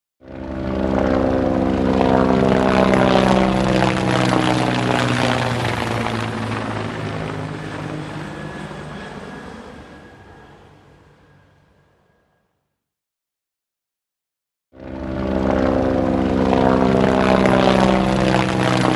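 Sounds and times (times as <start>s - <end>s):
helicopter flying past: 0.2s - 12.6s, 14.8s - 18.9s.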